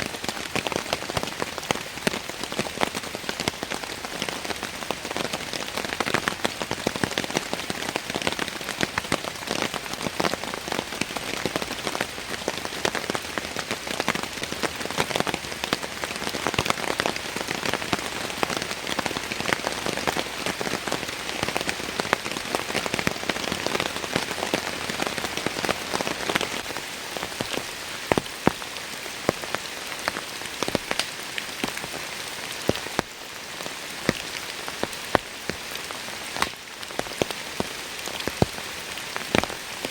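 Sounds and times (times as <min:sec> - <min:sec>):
rain falling: 0:00.0 - 0:39.9
single raindrops hitting close by: 0:05.4 - 0:39.9.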